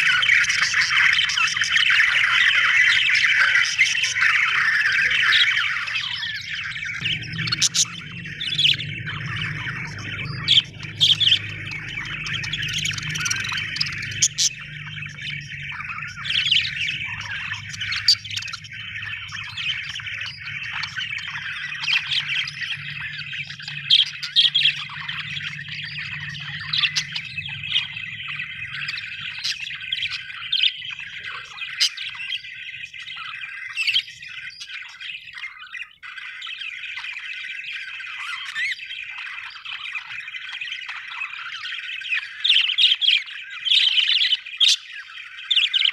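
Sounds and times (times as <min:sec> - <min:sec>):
budgerigars chattering: 0:00.0 - 0:45.9
sharp bird chirps: 0:00.0 - 0:45.9.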